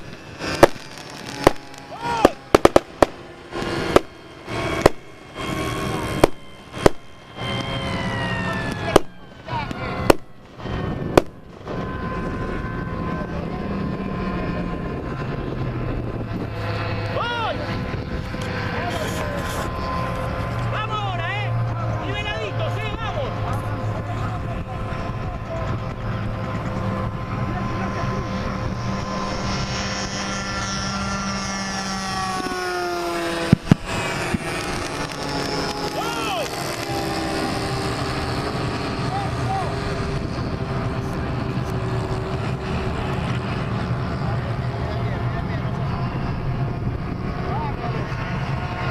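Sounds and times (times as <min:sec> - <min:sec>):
model aircraft engine droning: 0:00.0 - 0:48.9.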